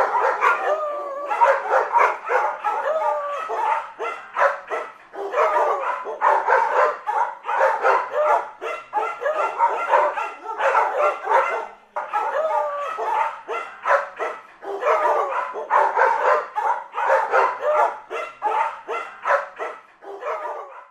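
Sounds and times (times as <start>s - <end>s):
dogs barking: 0.0s - 20.9s
dogs yelping: 0.0s - 20.9s.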